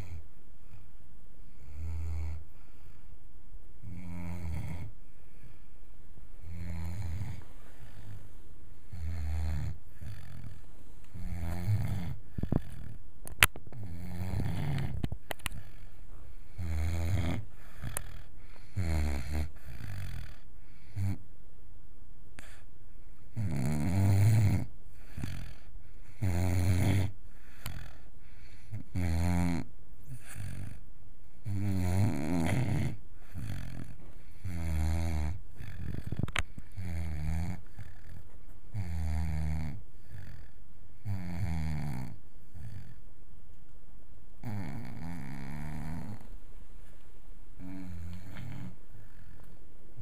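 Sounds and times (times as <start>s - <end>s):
puppy snoring: 0.0s - 3.1s, 3.8s - 5.7s, 6.4s - 21.3s, 22.4s - 43.0s, 44.4s - 46.4s, 47.6s - 50.0s.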